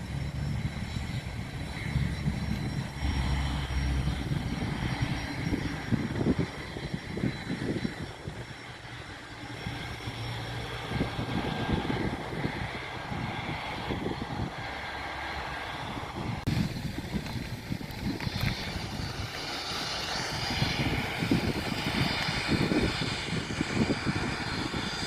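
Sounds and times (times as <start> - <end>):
aircraft engine noise: 0.0 - 25.0
high whine: 0.0 - 25.0
wind rumble on microphone: 0.0 - 25.0.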